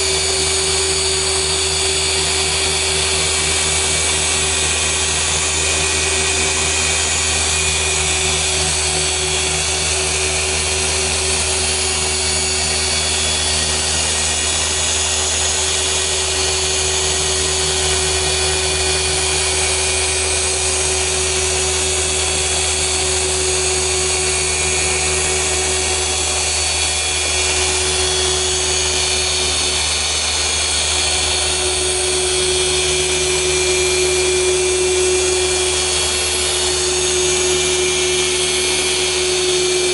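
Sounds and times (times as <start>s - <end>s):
car polisher motor whine: 0.0s - 39.9s.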